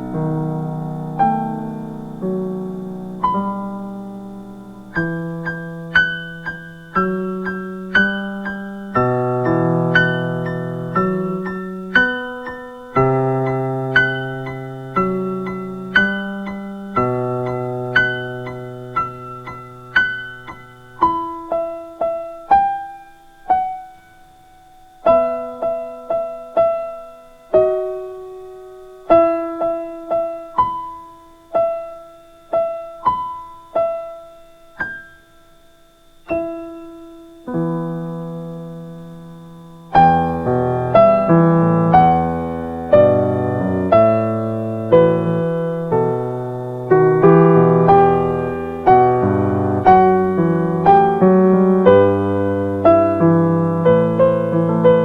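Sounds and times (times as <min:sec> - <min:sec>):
slow piano music: 0:00.0 - 0:55.0.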